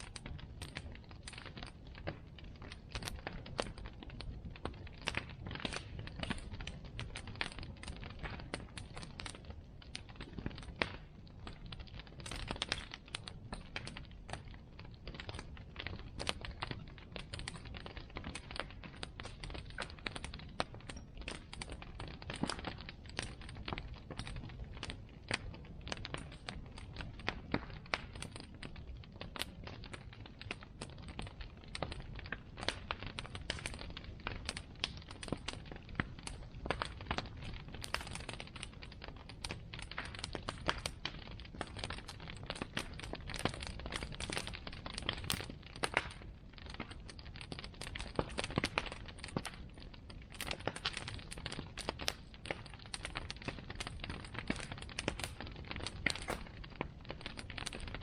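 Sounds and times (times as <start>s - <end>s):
bonfire crackling and popping: 0.0s - 58.0s
low rumble of flames: 0.0s - 58.0s.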